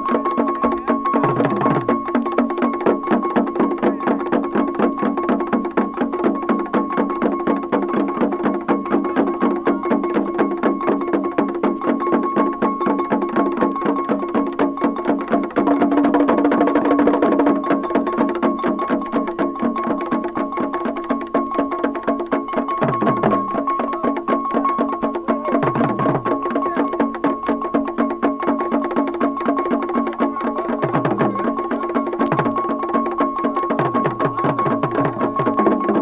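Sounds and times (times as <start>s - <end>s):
drum ensemble: 0.0s - 36.0s.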